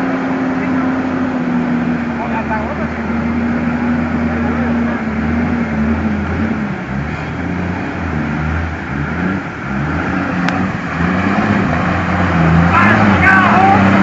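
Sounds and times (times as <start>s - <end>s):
bus engine under load: 0.0s - 14.0s
water rushing: 0.0s - 14.0s
wheels splashing: 0.0s - 14.0s.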